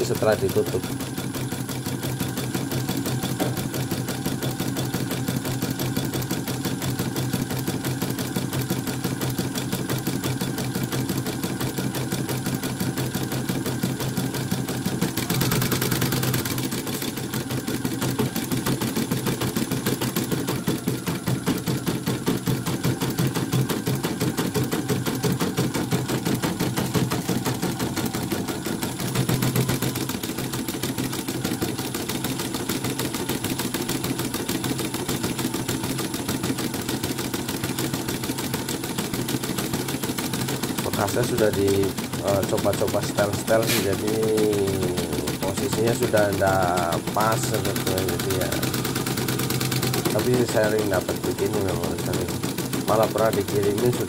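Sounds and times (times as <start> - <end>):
embroidery machine clattering: 0.0 - 54.0.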